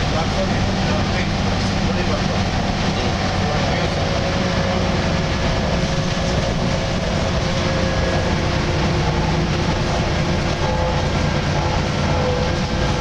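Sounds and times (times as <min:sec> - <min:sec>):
bus engine low rumble: 0:00.0 - 0:13.0
mid-pitched groaning tone: 0:00.0 - 0:13.0.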